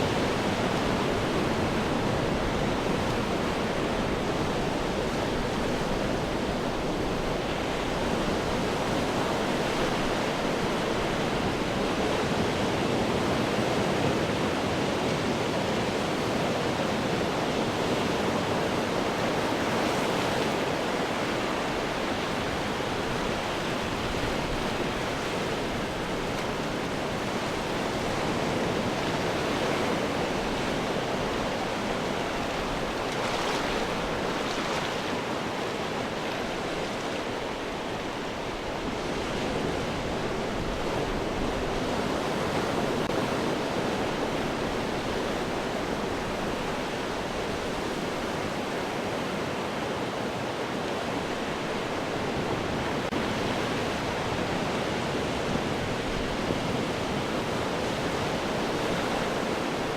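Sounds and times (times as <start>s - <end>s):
ocean waves breaking on rocks: 0.0s - 59.9s.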